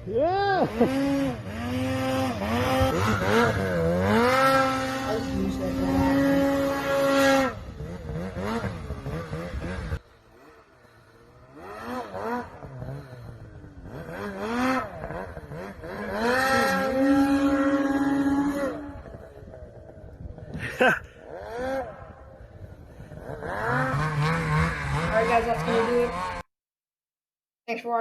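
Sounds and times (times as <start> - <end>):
snowmobile engines revving: 0.0 - 26.5.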